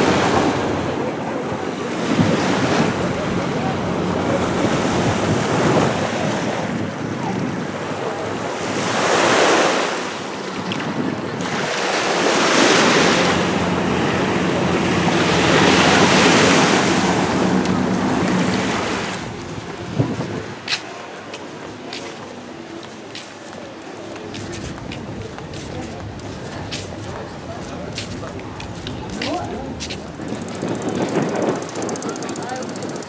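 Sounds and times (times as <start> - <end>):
wind buffeting microphone: 0.0 - 8.8, 10.4 - 20.8, 24.5 - 33.0
surf on beach: 0.0 - 33.0.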